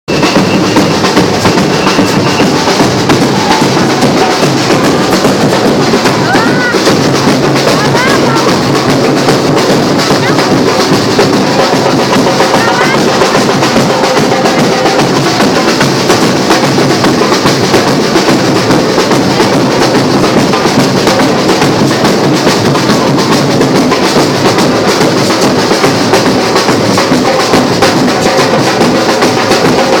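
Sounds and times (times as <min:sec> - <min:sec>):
samba drums playing: 0:00.1 - 0:30.0.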